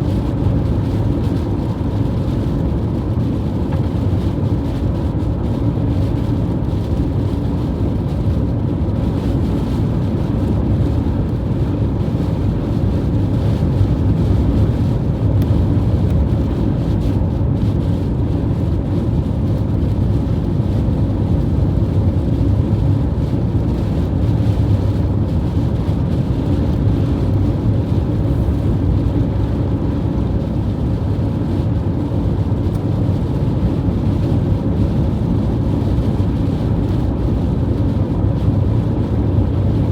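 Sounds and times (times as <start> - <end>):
wind on microphone rumble: 0.0 - 39.9.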